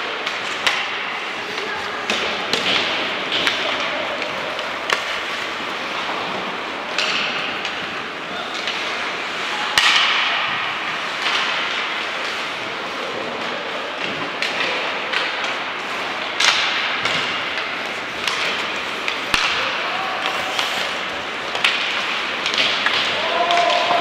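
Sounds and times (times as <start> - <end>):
puck and sticks hitting boards: 0.0 - 24.0.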